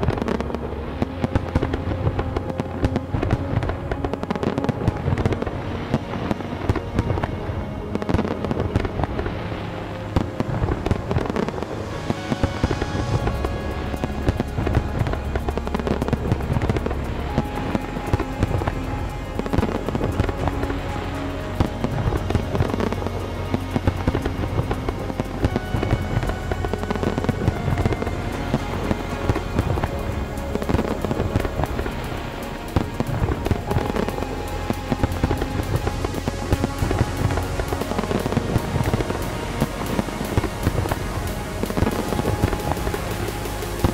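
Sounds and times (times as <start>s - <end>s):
deep rumble: 0.0s - 43.9s
fireworks bursting: 0.0s - 43.9s
music playing: 0.0s - 43.9s.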